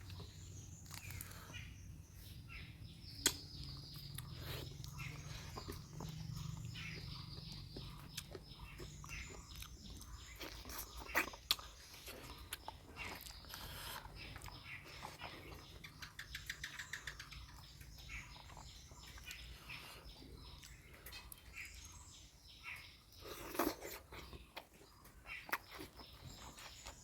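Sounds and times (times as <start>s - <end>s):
wet chewing and lip-smacking: 0.0s - 1.5s, 3.2s - 21.5s, 23.2s - 27.0s.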